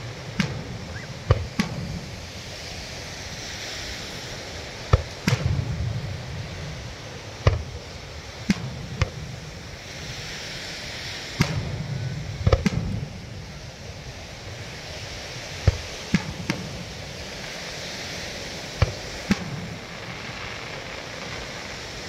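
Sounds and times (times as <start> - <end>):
fireworks bursting with bangs: 0.0 - 22.0
surf washing: 0.0 - 22.0.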